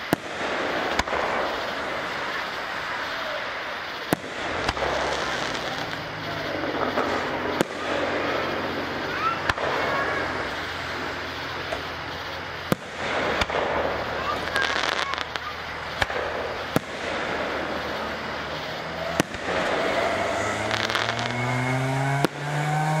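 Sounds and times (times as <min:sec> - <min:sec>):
crowd chatter: 0:00.0 - 0:21.6
fireworks bursting in bangs: 0:00.0 - 0:23.0.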